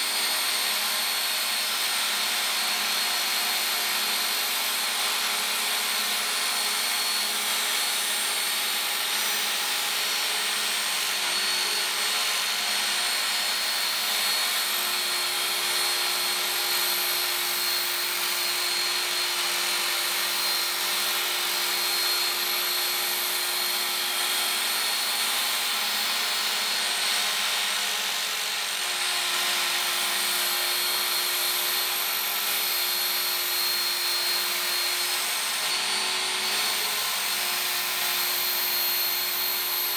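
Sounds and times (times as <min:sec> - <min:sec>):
belt sharpener motor whine: 0:00.0 - 0:39.9
blade grinding on abrasive belt: 0:00.0 - 0:39.9.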